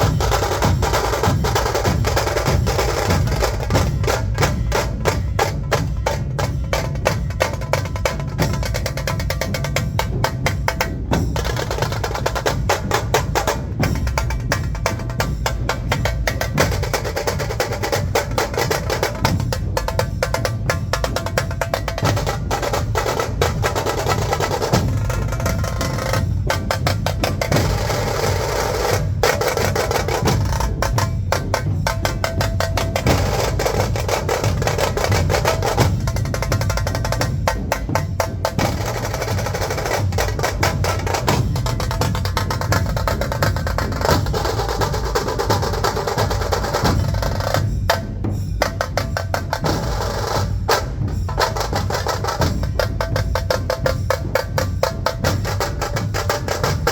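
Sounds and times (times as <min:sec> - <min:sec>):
dhol drums beating: 0:00.0 - 0:56.9
tasha drum rolls: 0:00.0 - 0:56.9.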